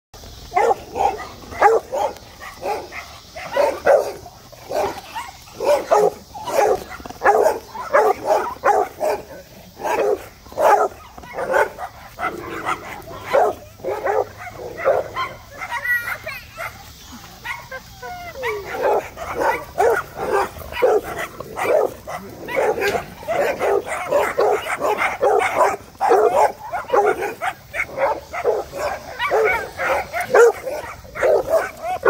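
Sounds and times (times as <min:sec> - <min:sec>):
dog barking: 0:00.5 - 0:17.8, 0:18.4 - 0:32.0.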